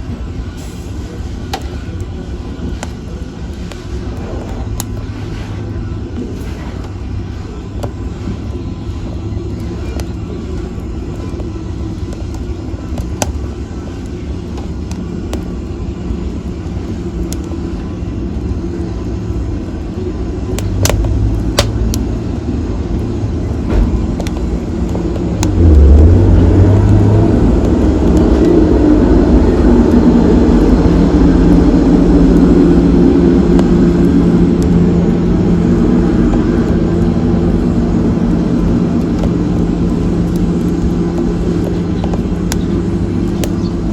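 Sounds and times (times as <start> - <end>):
fire crackling and popping: 0.0 - 43.9
fire roaring: 0.0 - 43.9.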